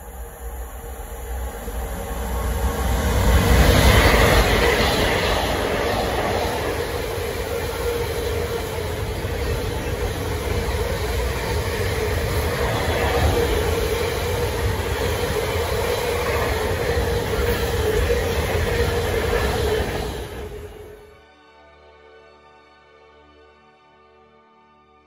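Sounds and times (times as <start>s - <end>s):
freight train wheels rumbling: 0.0s - 21.1s.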